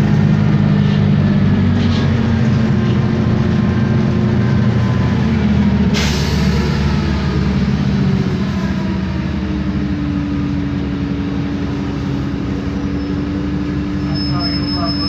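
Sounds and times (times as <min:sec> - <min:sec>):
bus diesel engine running: 0:00.0 - 0:15.0
drivetrain whine: 0:00.0 - 0:15.0.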